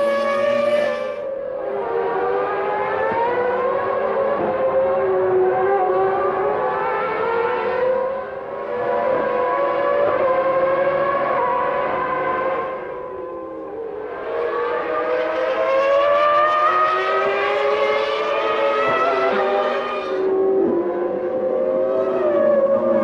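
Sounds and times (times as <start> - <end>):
racing car engines at high revs: 0.0 - 23.0.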